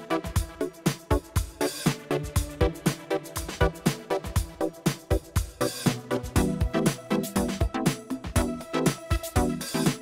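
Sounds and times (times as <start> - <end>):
electronic music with driving beat: 0.0 - 10.0.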